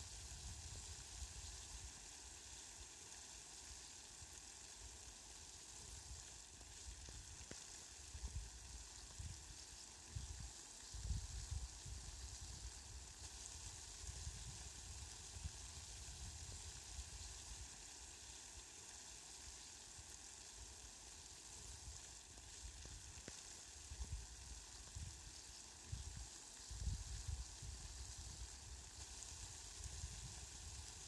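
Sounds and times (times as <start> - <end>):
water drops hissing on plants: 0.0 - 31.0.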